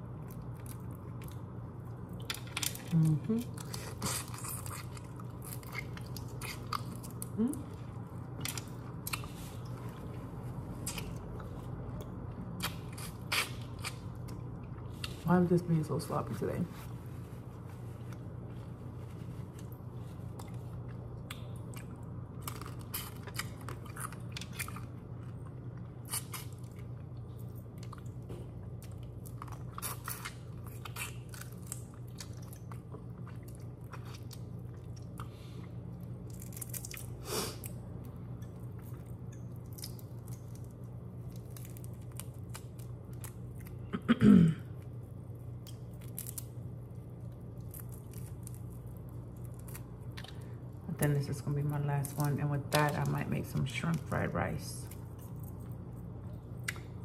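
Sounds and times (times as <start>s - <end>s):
steady low hum: 0.0s - 57.0s
person chewing shrimp: 0.2s - 15.2s, 19.4s - 43.9s, 44.7s - 50.8s, 55.0s - 57.0s.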